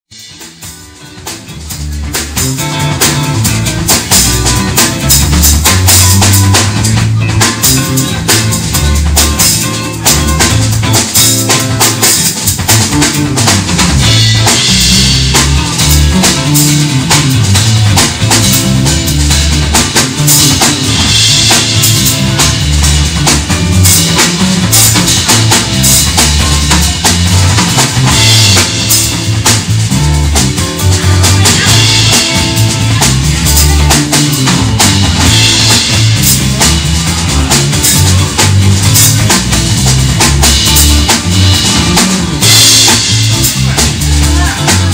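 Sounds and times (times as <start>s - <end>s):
bass line: 0.0s - 44.9s
drum kit beat: 0.1s - 44.9s.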